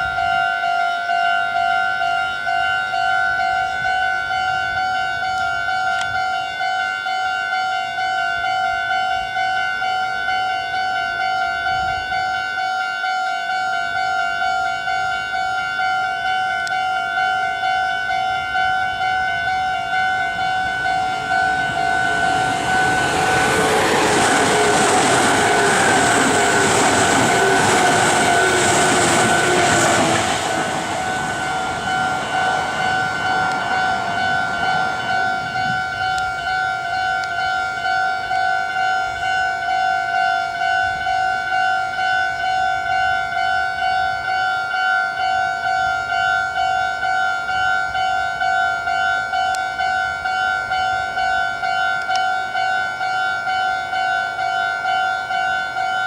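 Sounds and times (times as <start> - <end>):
electronic level-crossing alarm: 0.0 - 56.0
train running over crossing: 0.0 - 56.0.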